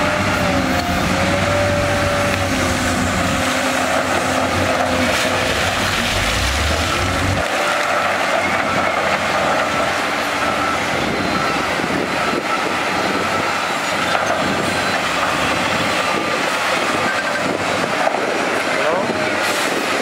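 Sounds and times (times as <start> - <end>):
heavy diesel machines running: 0.0 - 20.0.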